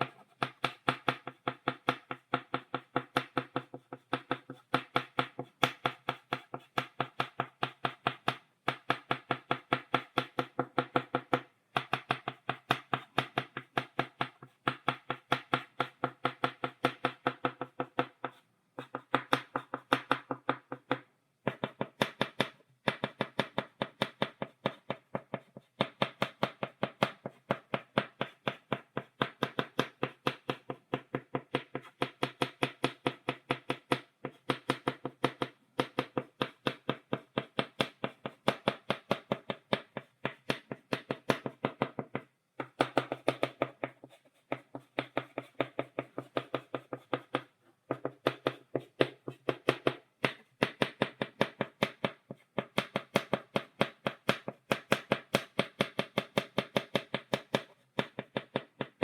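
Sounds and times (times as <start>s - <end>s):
chalk tapping on blackboard: 0.0s - 59.0s.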